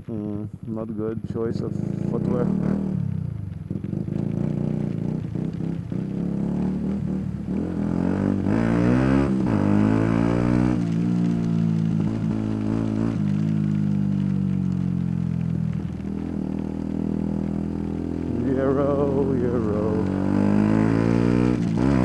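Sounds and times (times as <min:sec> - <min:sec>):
motorcycle engine running: 0:00.1 - 0:22.0.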